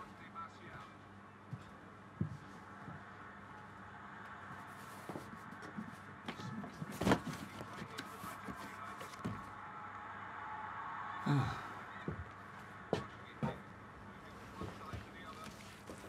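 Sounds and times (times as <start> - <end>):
low steady background hum: 0.0 - 16.0.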